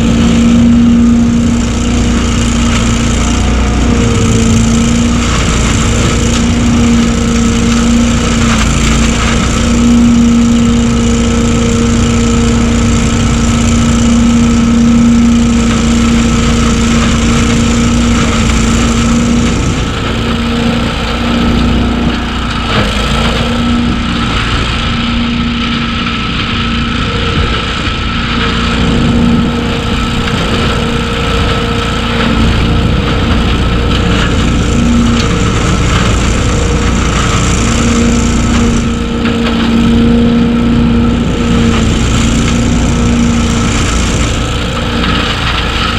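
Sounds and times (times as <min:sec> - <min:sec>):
fan rushing: 0:00.0 - 0:45.9
leaf vacuum engine drone: 0:00.0 - 0:45.9.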